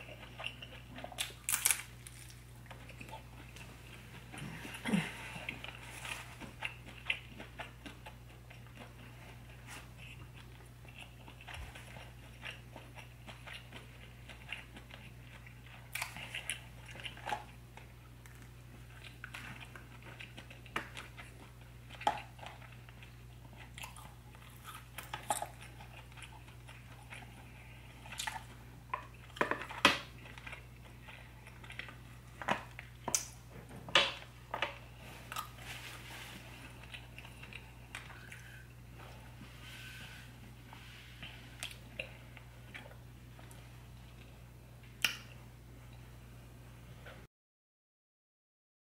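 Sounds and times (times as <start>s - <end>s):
close-miked chewing: 0.0s - 33.4s, 34.6s - 40.0s, 40.6s - 45.3s
steady low hum: 0.0s - 47.3s.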